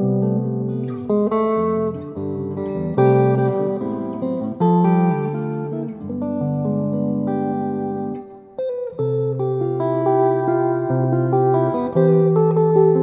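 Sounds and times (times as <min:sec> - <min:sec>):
electric guitar chords: 0:00.0 - 0:13.0.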